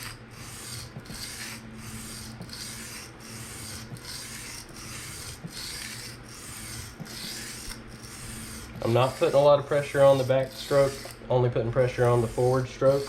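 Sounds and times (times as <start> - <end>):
knife scraping on sharpening stone: 0.0 - 11.2.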